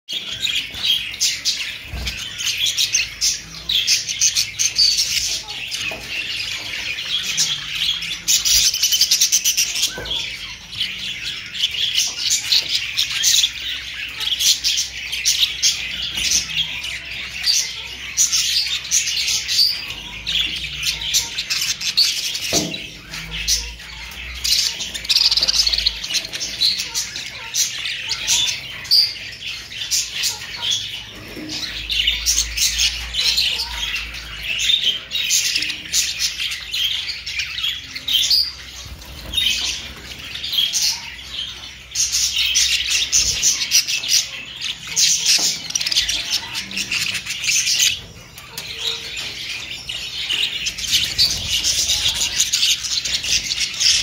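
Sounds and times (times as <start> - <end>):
budgerigars chirping: 0.1 - 54.0.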